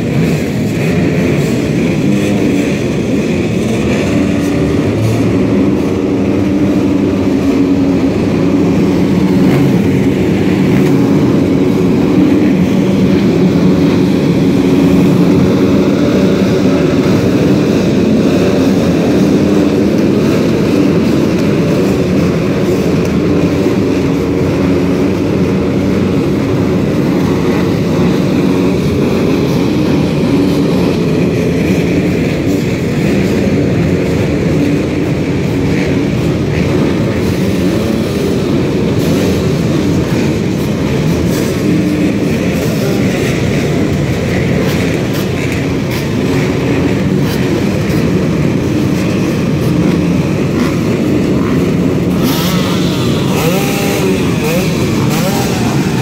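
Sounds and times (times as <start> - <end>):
motocross bike engines droning: 0.0 - 56.0.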